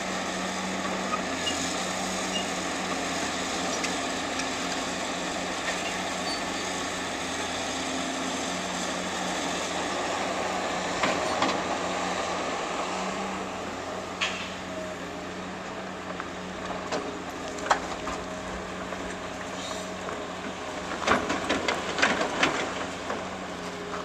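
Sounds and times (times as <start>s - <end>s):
demolition machinery engine hum: 0.0s - 24.0s.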